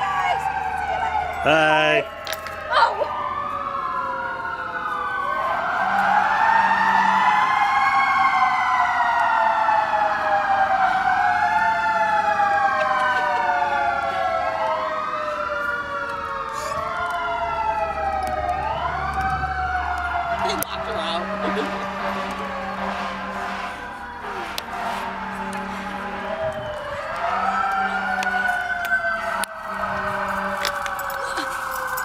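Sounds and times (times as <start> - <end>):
emergency vehicle sirens wailing: 0.0 - 32.0.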